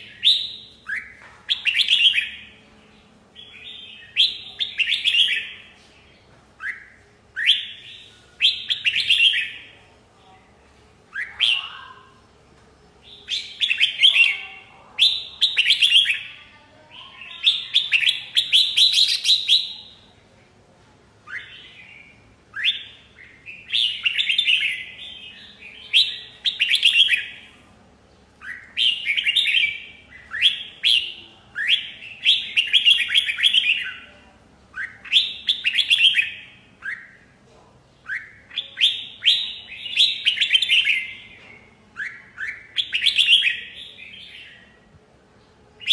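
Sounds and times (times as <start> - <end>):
bird chattering song: 0.0 - 2.6, 3.4 - 5.7, 6.6 - 9.8, 13.0 - 20.1, 21.2 - 27.6, 28.2 - 34.1, 34.7 - 44.9.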